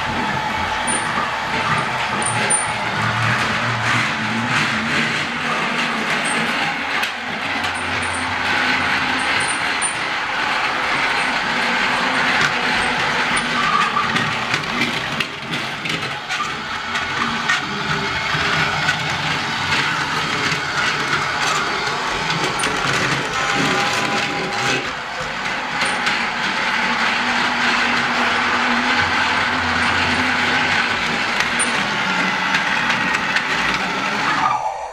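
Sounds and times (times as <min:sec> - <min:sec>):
plastic wheels clicking on track: 0:00.0 - 0:34.4
toy train motor whirring: 0:00.0 - 0:34.5.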